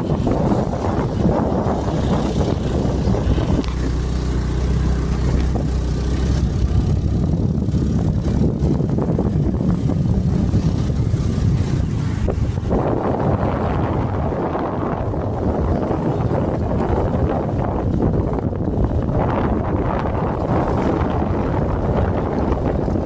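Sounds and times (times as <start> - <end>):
vehicle engine hum: 0.0 - 23.0
wind rumbling on microphone: 0.0 - 23.0.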